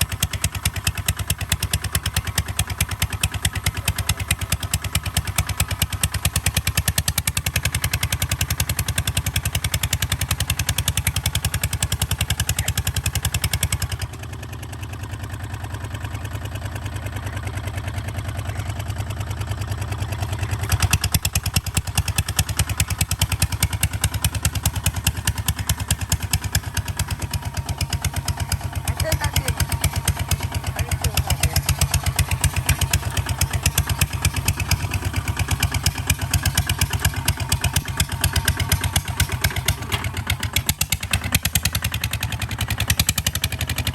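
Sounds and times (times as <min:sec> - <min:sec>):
diesel engine knocking: 0:00.0 - 0:43.9.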